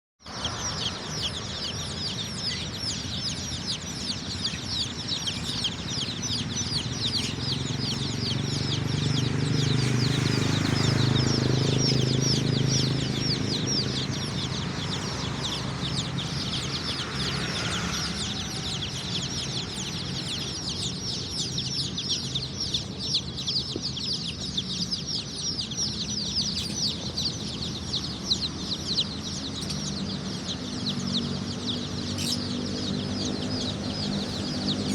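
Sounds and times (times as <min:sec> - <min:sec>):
chicks peeping: 0:00.3 - 0:34.9.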